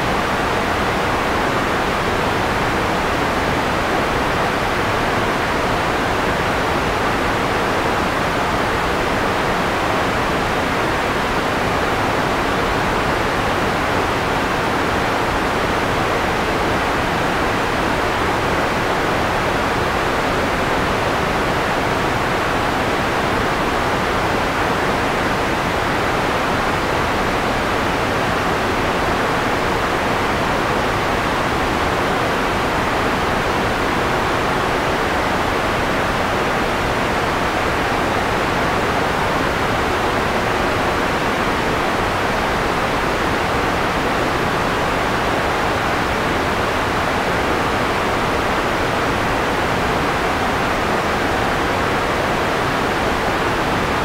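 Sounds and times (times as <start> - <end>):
soft white noise hiss: 0.0 - 54.0.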